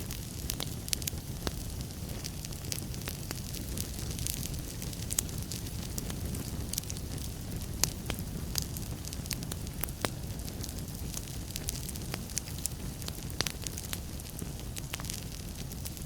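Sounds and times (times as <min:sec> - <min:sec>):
fireplace fire crackling and popping: 0:00.0 - 0:16.0
low fire rumble: 0:00.0 - 0:16.0.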